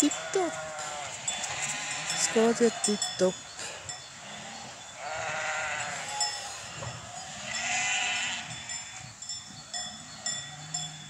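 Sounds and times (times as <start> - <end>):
sheep bleating: 0.0 - 9.1.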